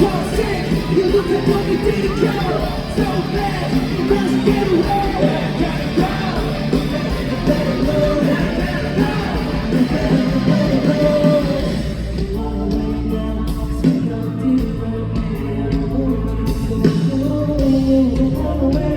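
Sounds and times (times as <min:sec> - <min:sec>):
rock band playing live: 0:00.0 - 0:18.9.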